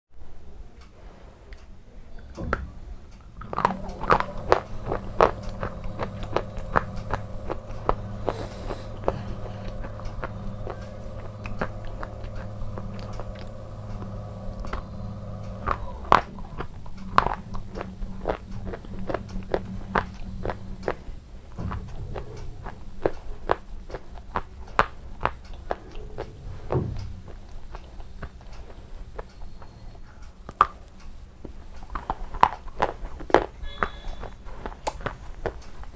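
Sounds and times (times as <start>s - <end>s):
steady low hum: 0.2s - 35.9s
crunchy biting and chewing: 3.3s - 35.9s.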